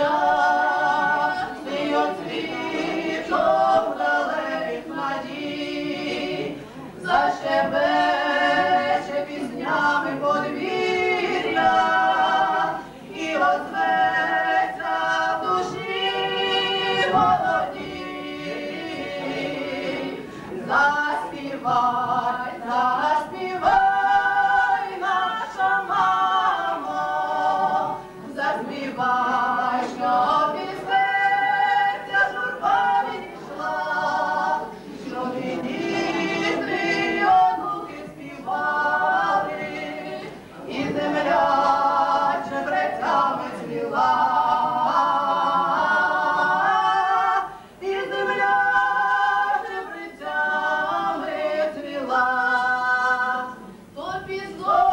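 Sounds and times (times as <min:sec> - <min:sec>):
women singing unaccompanied: 0:00.0 - 0:54.9.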